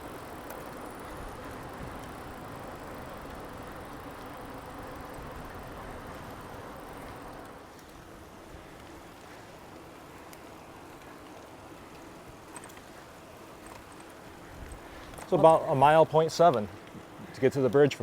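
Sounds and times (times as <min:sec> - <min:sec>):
bicycle tyres rolling on trail: 0:00.0 - 0:18.0.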